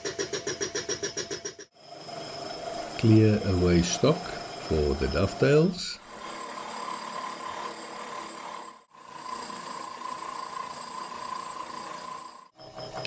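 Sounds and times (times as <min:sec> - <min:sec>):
machine cutting metal: 0:02.1 - 0:13.0.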